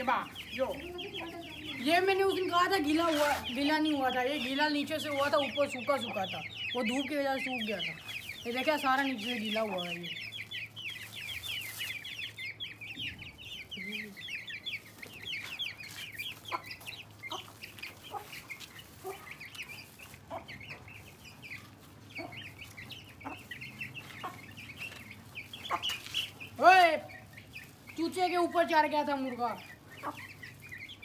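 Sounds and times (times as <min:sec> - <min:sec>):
chicken clucking: 0:00.0 - 0:31.0
chicks peeping: 0:00.0 - 0:31.0.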